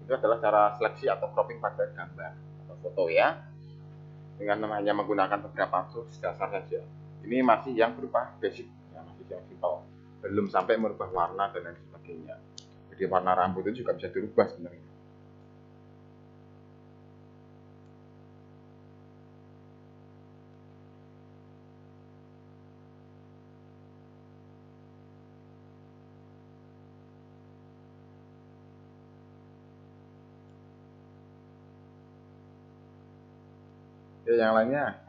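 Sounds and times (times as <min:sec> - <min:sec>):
faint electrical hum: 0:00.0 - 0:35.0.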